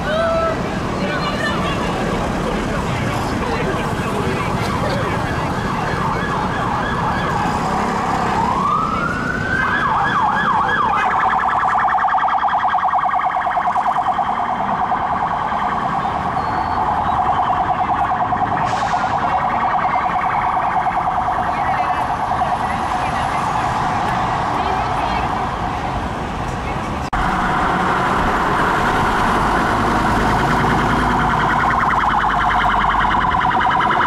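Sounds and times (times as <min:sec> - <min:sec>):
road noise: 0:00.0 - 0:34.0
two-tone police siren: 0:04.6 - 0:25.8, 0:27.2 - 0:34.0.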